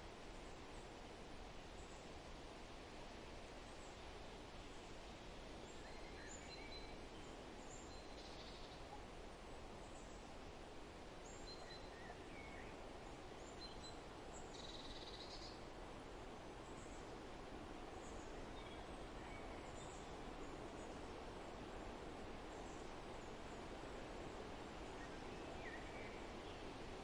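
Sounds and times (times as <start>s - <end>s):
steady soft hiss: 0.0s - 27.0s.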